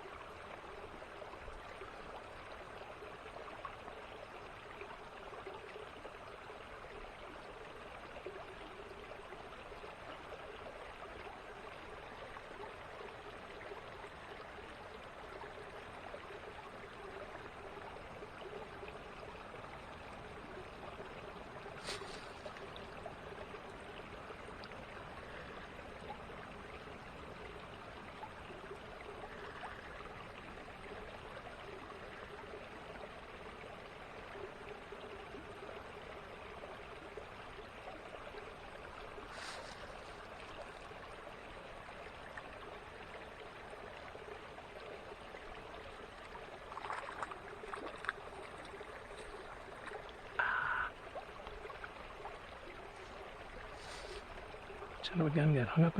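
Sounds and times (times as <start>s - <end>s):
creek running: 0.0s - 55.9s.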